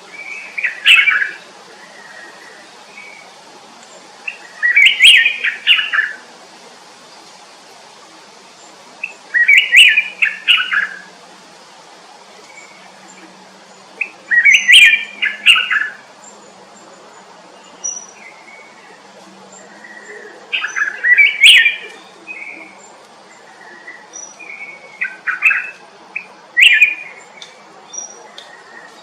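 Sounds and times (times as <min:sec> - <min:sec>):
songbirds chirping song: 0:00.0 - 0:29.0.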